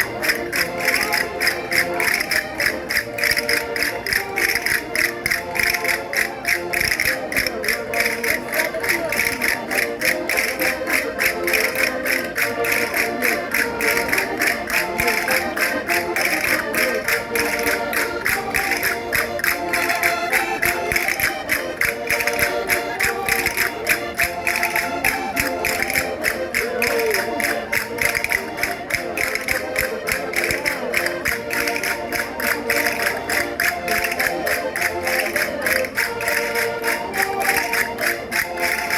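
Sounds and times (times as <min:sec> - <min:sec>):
concertinas playing chords: 0:00.0 - 0:38.9.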